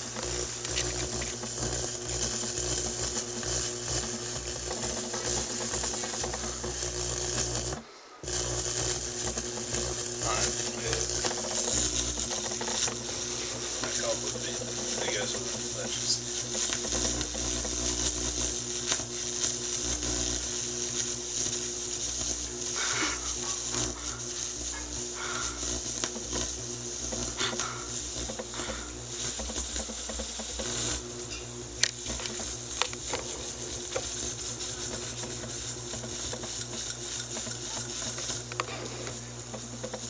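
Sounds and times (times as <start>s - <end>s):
electrical interference hiss: 0.0s - 40.0s.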